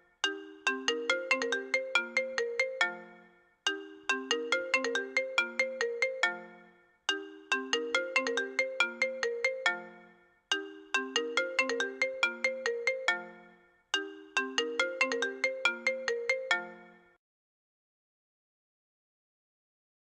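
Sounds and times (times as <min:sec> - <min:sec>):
phone ringtone chiming melody: 0:00.0 - 0:17.2.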